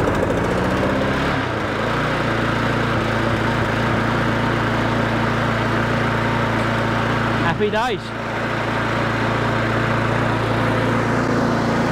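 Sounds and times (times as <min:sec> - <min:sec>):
lawnmower engine running: 0:00.0 - 0:11.9.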